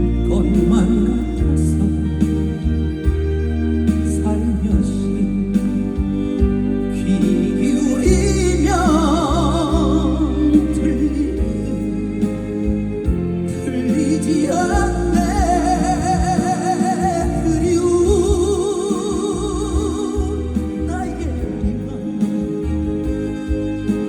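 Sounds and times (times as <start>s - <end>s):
trot song with band: 0.0s - 24.0s.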